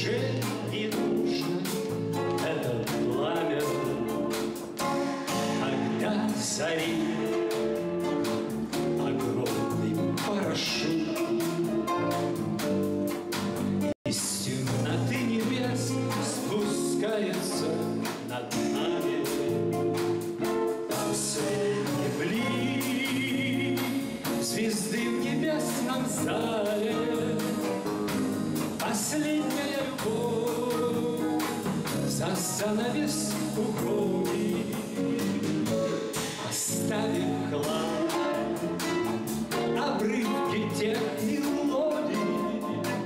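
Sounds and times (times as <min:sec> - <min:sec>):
man singing: 0:00.0 - 0:12.4, 0:14.0 - 0:43.0
live band playing jazz ballad: 0:00.0 - 0:43.0.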